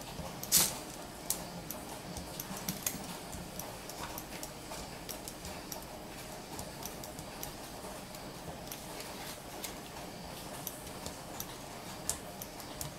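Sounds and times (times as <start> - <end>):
solder flux crackling: 0.0 - 12.9.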